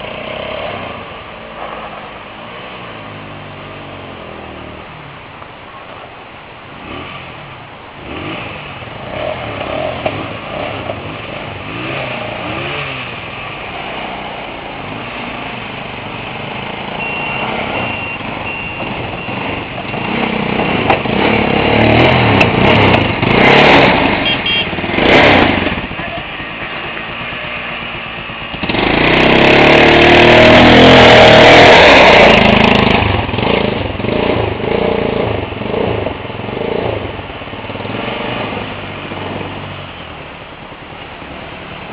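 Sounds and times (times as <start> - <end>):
motorcycle engines revving: 0.0 - 5.3, 6.7 - 41.9.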